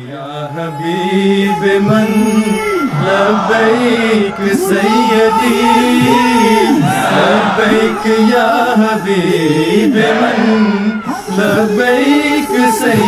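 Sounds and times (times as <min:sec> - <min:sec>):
men singing slow chant: 0:00.0 - 0:13.0.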